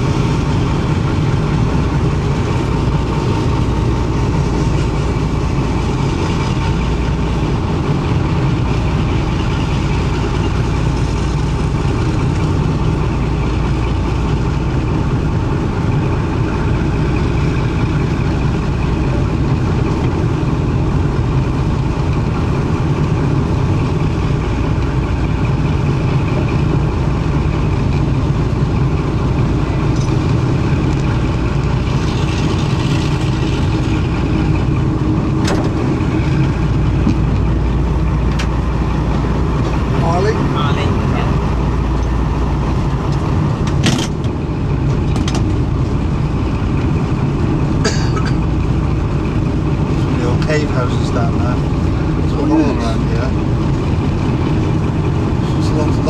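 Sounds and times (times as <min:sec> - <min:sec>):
diesel locomotive engines running: 0:00.0 - 0:56.0.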